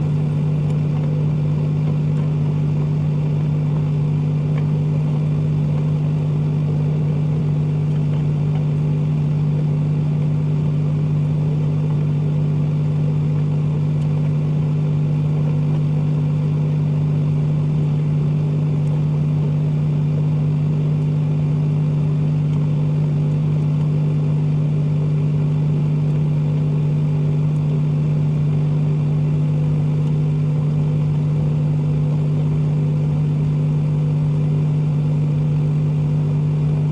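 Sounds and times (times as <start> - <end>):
microwave oven humming: 0.0 - 36.9.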